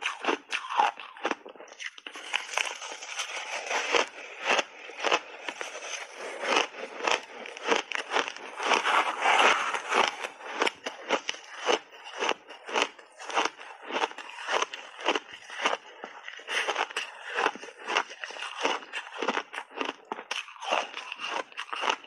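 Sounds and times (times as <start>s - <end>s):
crunching shaved ice: 0.0s - 22.0s.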